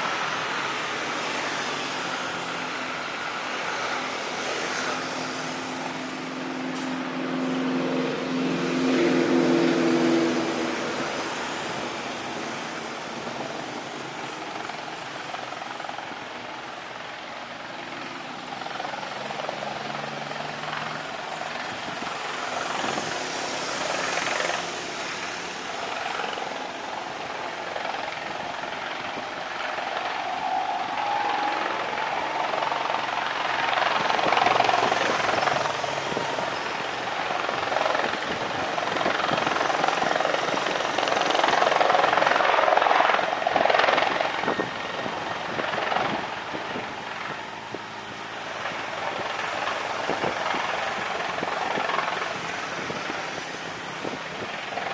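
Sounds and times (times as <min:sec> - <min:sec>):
aircraft engine rushing: 0:00.0 - 0:54.9.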